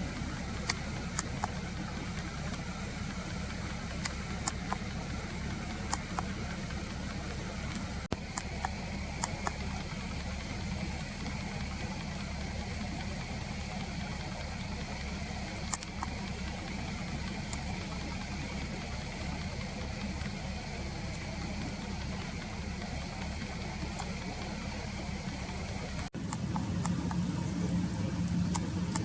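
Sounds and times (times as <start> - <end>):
low engine-like rumble: 0.0 - 29.0.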